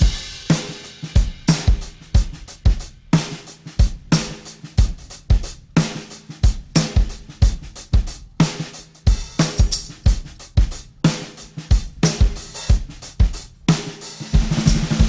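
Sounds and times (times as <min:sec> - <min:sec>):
music with drum beat: 0:00.0 - 0:15.0.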